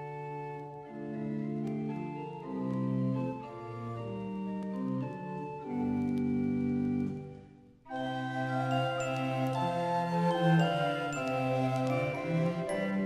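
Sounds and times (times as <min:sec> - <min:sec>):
slow organ chords: 0:00.0 - 0:13.0.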